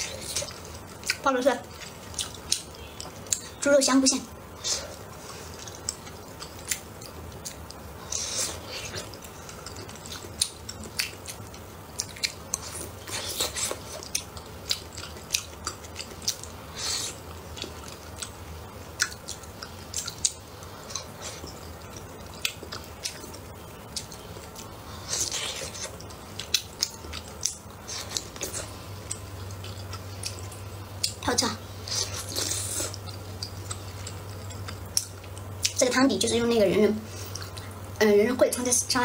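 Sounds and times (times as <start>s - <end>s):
wet chewing with mouth clicks: 0.0s - 36.0s, 37.1s - 37.8s.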